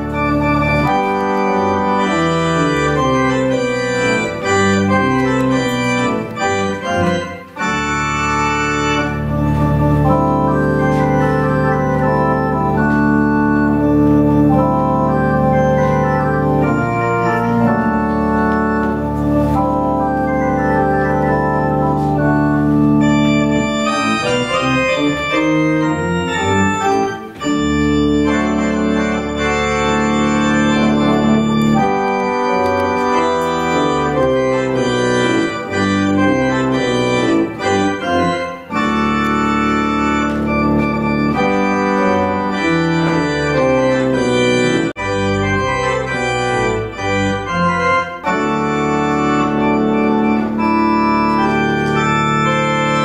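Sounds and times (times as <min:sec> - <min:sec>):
church organ chords: 0:00.0 - 0:53.0.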